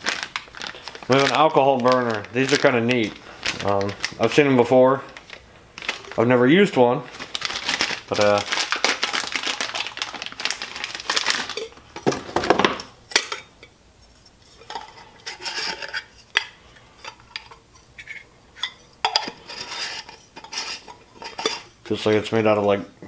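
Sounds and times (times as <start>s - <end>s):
plastic wrapping crinkling: 0.0s - 13.4s, 14.0s - 22.3s.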